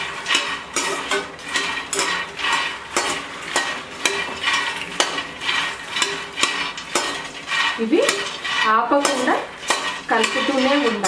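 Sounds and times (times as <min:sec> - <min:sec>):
metal spoon scraping steel pan: 0:00.0 - 0:11.0.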